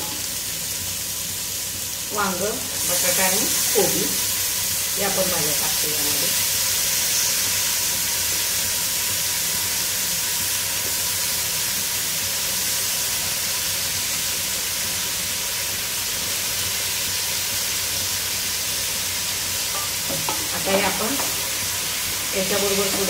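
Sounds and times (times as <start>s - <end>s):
vegetables sizzling in a pot: 0.0s - 23.0s.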